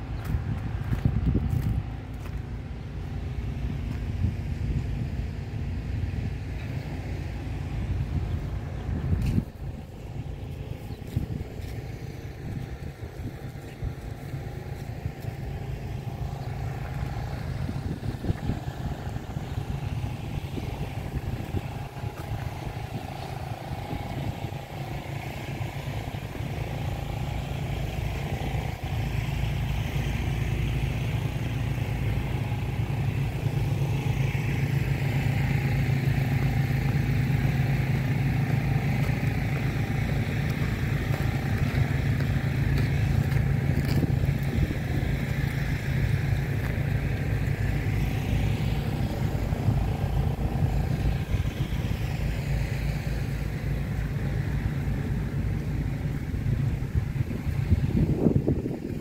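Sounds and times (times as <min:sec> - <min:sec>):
vehicle engine rumble: 0:00.0 - 0:59.0.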